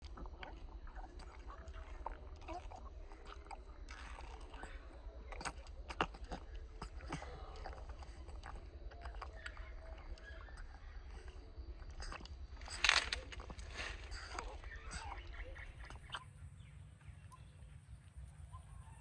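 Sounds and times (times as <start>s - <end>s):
wet smacks and clicks: 0.0s - 16.2s
steady low hum: 0.0s - 19.0s.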